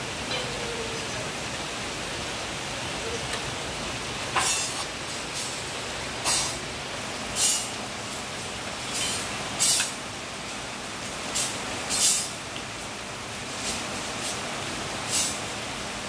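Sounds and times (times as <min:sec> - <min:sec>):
rain falling on foliage: 0:00.0 - 0:16.0.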